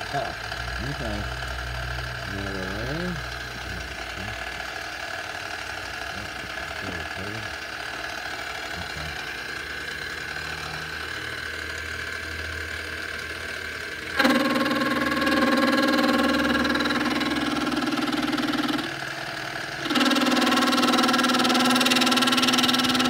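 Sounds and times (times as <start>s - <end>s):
milling machine cutting metal: 0.0s - 23.0s.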